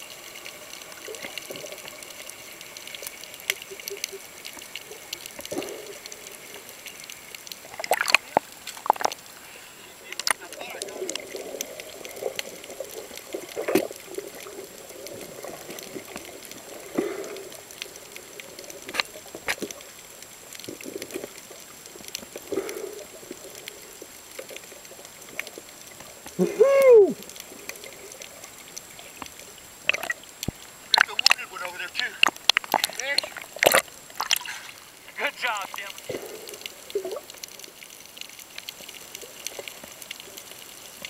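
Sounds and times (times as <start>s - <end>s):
low underwater rush: 0.0s - 41.0s
sharp clicks and crackles: 0.1s - 26.4s, 27.2s - 41.0s.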